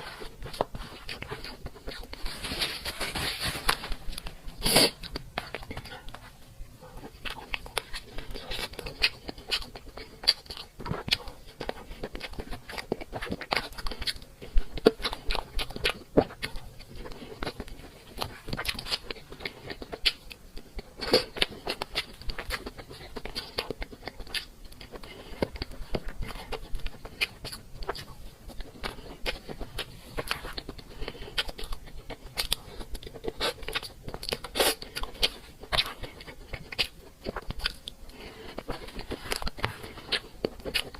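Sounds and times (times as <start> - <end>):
person chewing and biting cake: 0.0 - 40.9.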